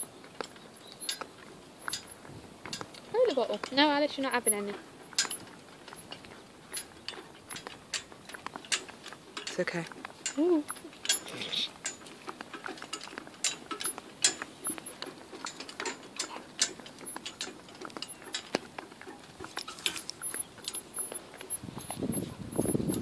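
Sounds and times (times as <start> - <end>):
cart and harness rattling: 0.0 - 23.0
pony hooves on tarmac: 0.0 - 23.0.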